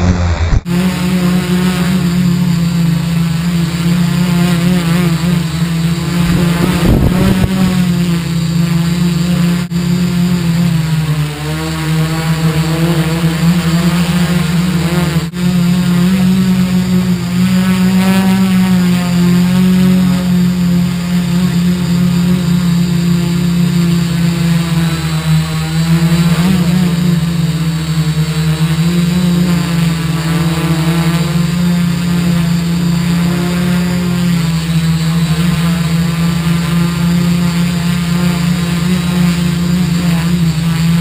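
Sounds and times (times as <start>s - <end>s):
drone motors buzzing: 0.0s - 41.0s.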